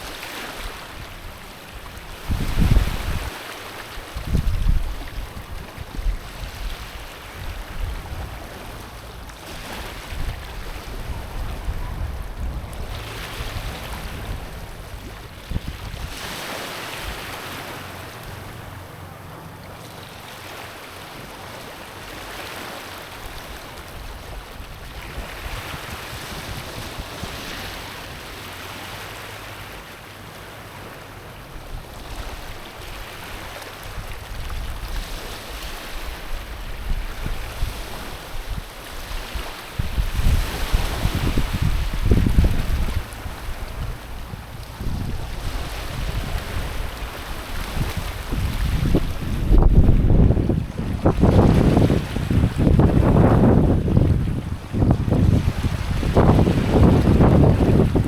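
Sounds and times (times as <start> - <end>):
wind rumbling on microphone: 0.0 - 19.5, 23.3 - 29.8, 31.5 - 58.0
waves washing onto pebbly shore: 0.0 - 58.0.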